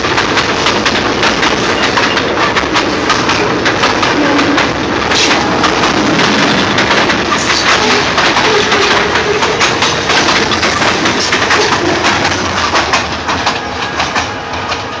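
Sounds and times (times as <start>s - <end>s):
train wheels clattering over rails: 0.0s - 15.0s.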